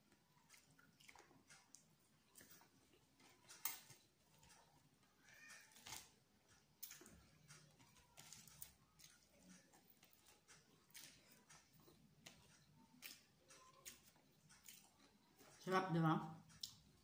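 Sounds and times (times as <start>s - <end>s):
person chewing and smacking: 0.0s - 15.6s, 16.4s - 17.0s.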